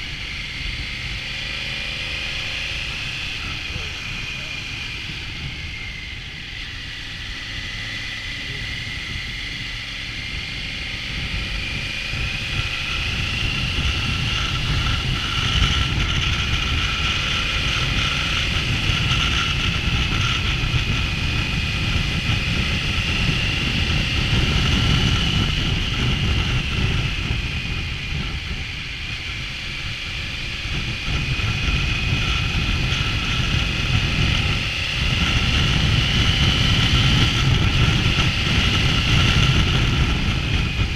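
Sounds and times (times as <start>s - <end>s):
motorcycle engine: 0.0s - 40.9s
wind rush on microphone: 0.0s - 40.9s.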